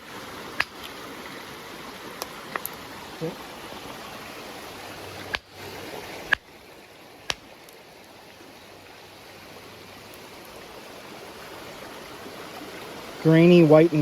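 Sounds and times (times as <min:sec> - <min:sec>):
creek running: 0:00.0 - 0:14.0.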